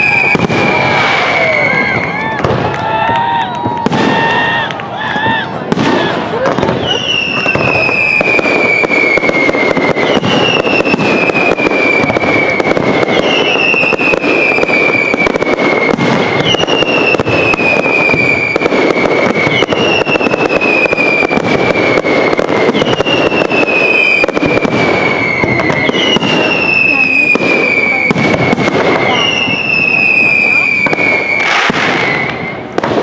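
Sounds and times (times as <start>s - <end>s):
falling firework whistle: 0.0s - 33.0s
fireworks crackling and banging: 0.0s - 33.0s.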